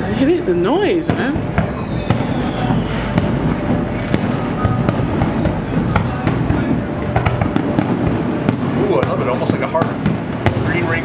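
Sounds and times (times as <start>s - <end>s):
distant shell bursts rumbling: 0.0s - 11.0s
fireworks bangs and crackles: 0.0s - 11.0s.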